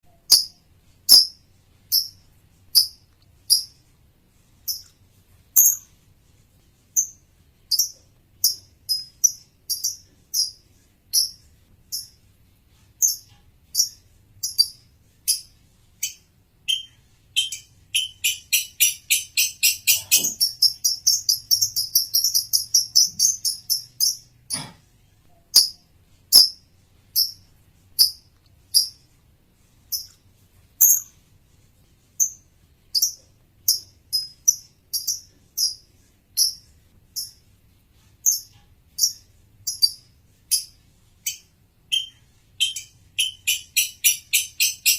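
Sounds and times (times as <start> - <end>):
lovebird chirping: 0.0 - 3.8, 4.6 - 5.0, 5.6 - 6.0, 6.9 - 12.2, 12.8 - 29.1, 29.9 - 30.2, 30.8 - 31.2, 32.2 - 37.5, 38.2 - 44.9.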